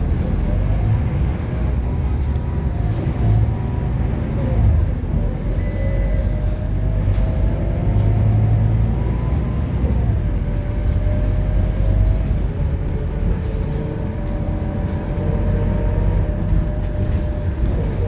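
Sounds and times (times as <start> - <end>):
bus diesel engine rumbling: 0.0 - 18.0
engine whine: 0.0 - 18.0.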